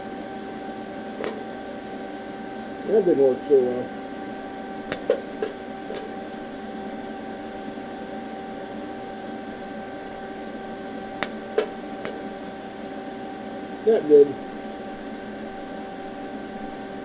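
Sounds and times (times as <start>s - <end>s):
welder machine hum: 0.0s - 17.0s.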